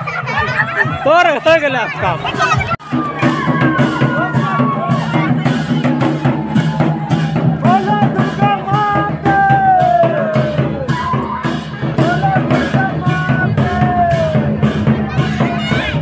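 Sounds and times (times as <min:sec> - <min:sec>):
crowd voices: 0:00.0 - 0:16.0.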